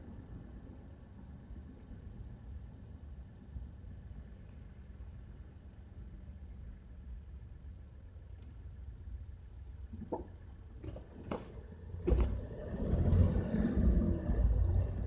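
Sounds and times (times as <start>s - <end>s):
vehicle rumbling on road: 0.0s - 15.0s.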